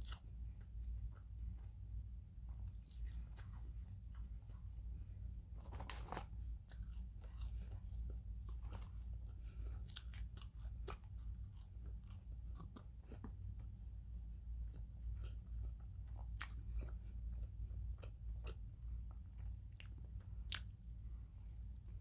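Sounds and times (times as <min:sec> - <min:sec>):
low steady hum: 0:00.0 - 0:22.0
person chewing food: 0:00.0 - 0:22.0.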